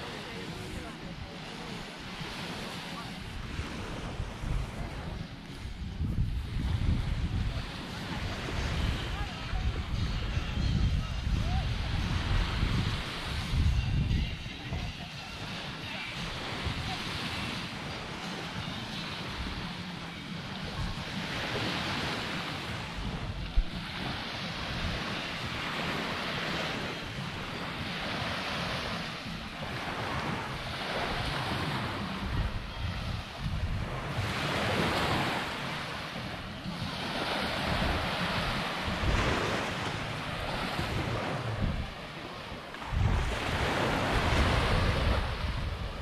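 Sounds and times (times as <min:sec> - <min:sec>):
small waves washing onto beach: 0:00.0 - 0:46.0
wind on microphone: 0:00.0 - 0:46.0.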